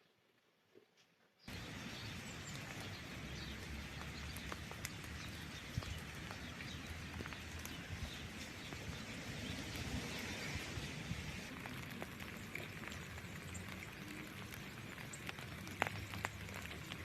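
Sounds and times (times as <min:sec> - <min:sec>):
small birds chirping: 0:01.4 - 0:17.0
rain falling: 0:01.5 - 0:17.0
drips tapping: 0:01.6 - 0:10.5, 0:11.5 - 0:17.0.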